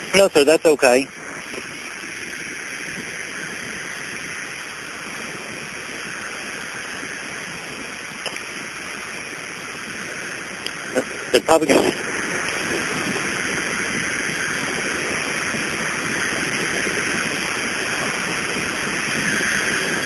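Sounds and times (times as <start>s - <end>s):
airplane cabin noise over phone: 0.0s - 20.0s.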